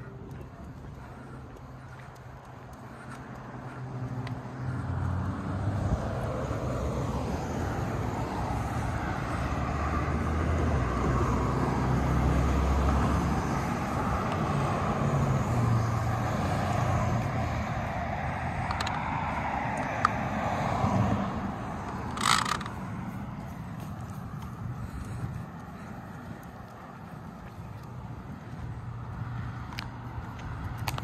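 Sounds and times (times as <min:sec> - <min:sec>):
engine rumble: 0:00.0 - 0:31.0.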